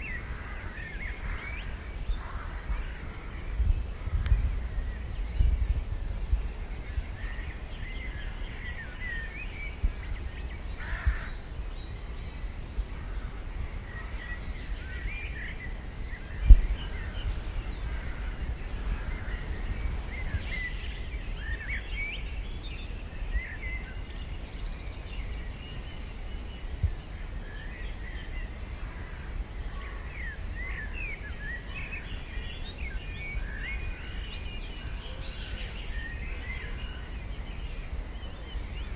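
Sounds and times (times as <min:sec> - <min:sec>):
small birds chirping: 0:00.0 - 0:38.9
wind rumble on microphone: 0:00.0 - 0:38.9.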